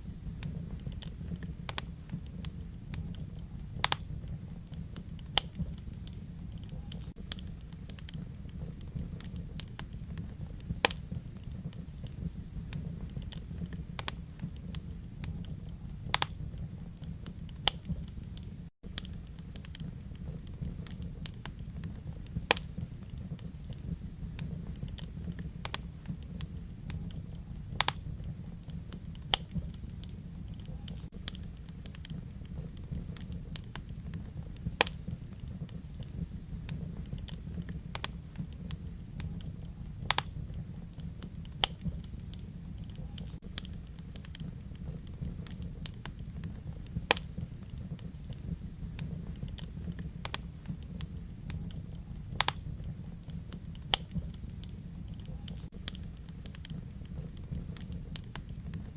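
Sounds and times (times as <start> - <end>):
fire low rumble: 0.0 - 58.9
wood fire crackling: 0.0 - 58.9.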